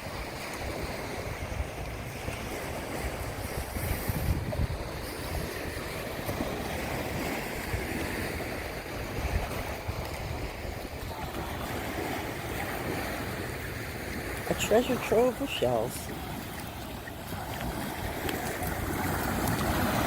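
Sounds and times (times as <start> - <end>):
wind buffeting microphone: 0.0 - 14.2, 16.1 - 20.0
surf washing onto beach: 0.0 - 20.0.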